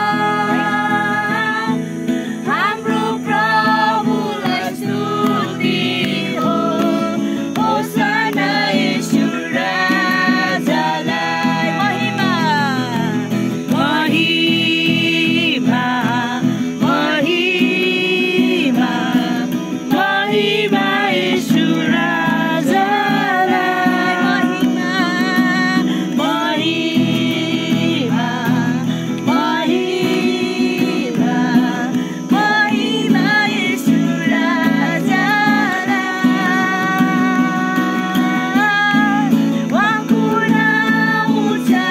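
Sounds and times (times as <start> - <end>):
acoustic guitar: 0.0 - 41.9
woman singing: 0.0 - 41.9.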